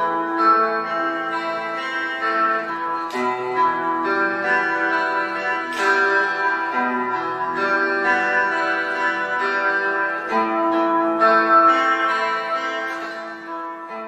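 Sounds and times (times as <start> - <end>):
clean electric guitar plucked: 0.0 - 14.0.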